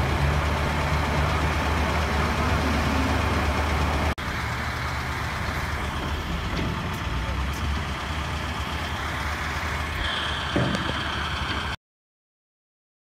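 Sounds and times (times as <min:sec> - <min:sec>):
heavy machinery engine idling: 0:00.0 - 0:11.8.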